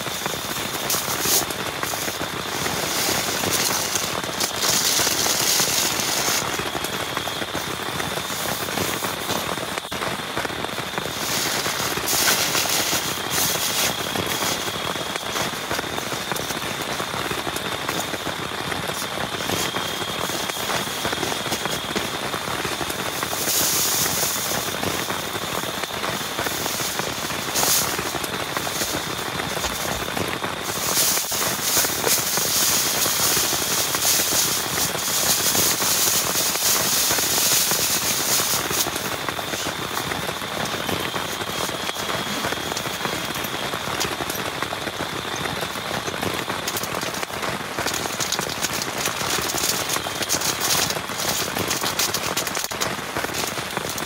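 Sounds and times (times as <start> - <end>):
heavy rain falling: 0.0 - 54.0
raindrops spattering on surface: 0.0 - 54.0.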